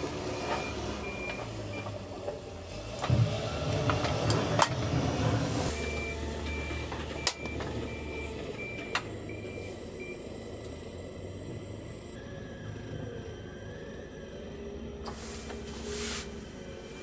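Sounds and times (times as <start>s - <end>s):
reversing alarm beeping: 0.0s - 2.3s, 3.6s - 17.0s
engine running: 0.0s - 17.0s.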